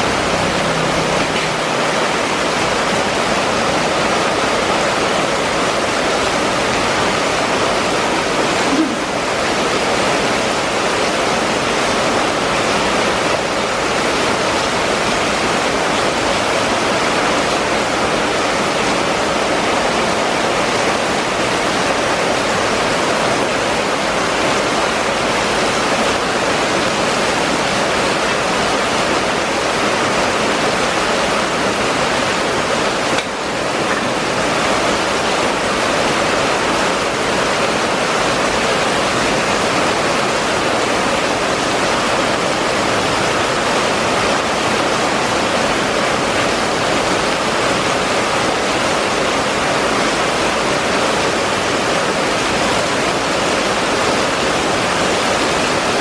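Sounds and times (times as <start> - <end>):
heavy rain on standing water: 0.0 - 56.0.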